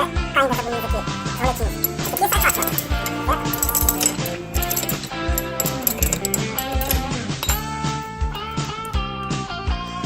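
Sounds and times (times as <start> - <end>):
guitar-led rock music: 0.0 - 10.0.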